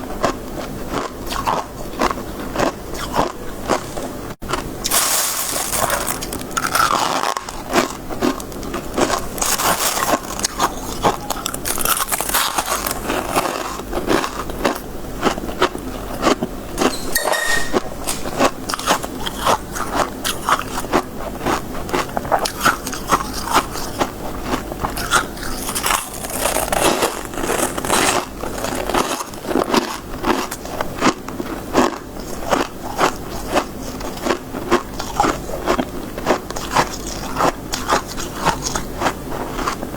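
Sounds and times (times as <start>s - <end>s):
chewing crunchy frost: 0.1s - 17.0s, 18.1s - 39.9s.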